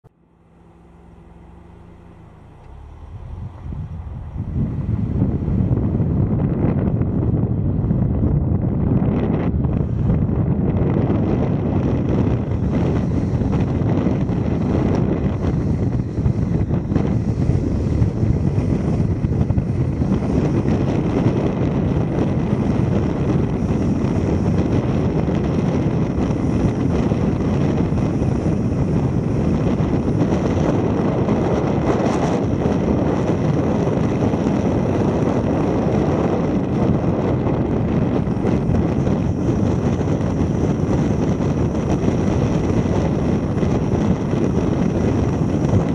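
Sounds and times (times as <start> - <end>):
car road and tyre noise: 0.0 - 45.9
wind rushing on microphone: 0.1 - 45.9.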